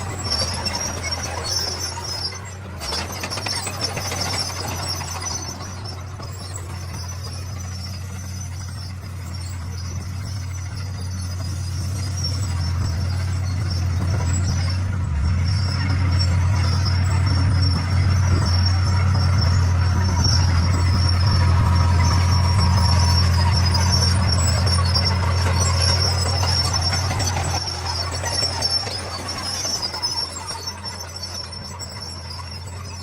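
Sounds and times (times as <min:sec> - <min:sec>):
bulldozer diesel engine: 0:00.0 - 0:33.0.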